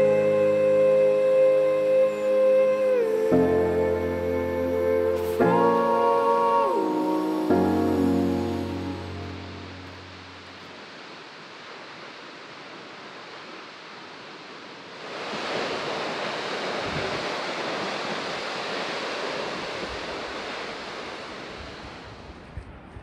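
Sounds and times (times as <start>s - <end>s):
rushing falling water: 0.0s - 22.4s.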